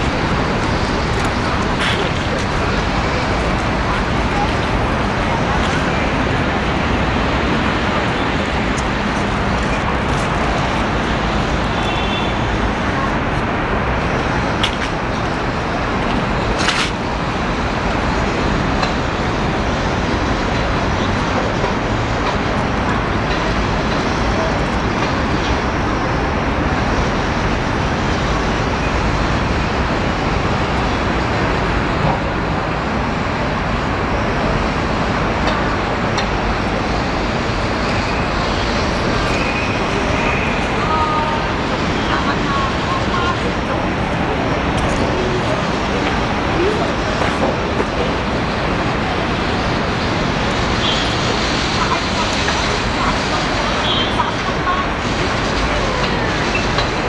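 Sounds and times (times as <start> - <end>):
city traffic rumble: 0.0 - 57.0.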